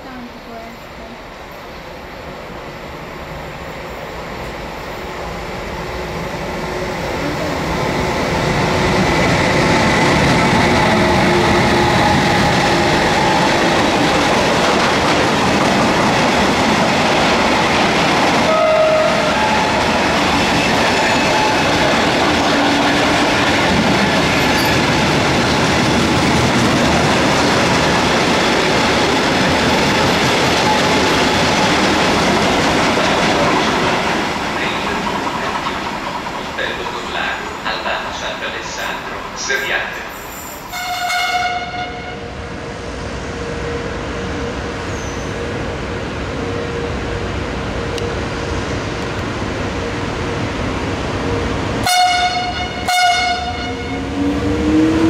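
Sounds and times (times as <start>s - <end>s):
train wheels on rails: 1.3s - 55.0s.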